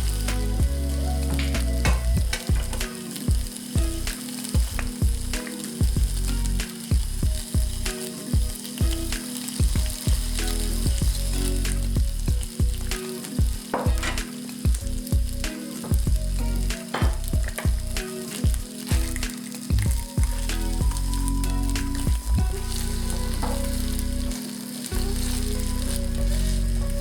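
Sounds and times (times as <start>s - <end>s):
sausages sizzling in a pan: 0.0s - 27.0s.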